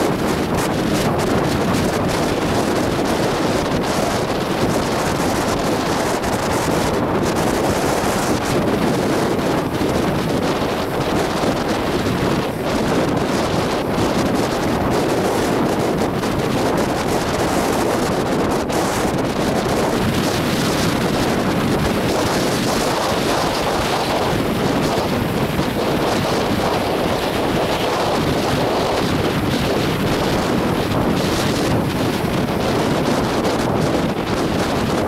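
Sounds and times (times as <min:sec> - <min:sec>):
gusty wind on microphone: 0:00.0 - 0:35.0
surf washing: 0:00.0 - 0:35.0.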